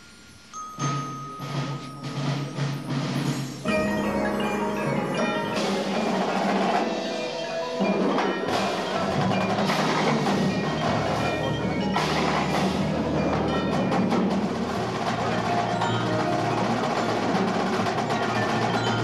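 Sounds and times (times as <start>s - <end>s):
marimbas ringing notes: 0.0s - 19.0s
marching drums: 0.8s - 19.0s.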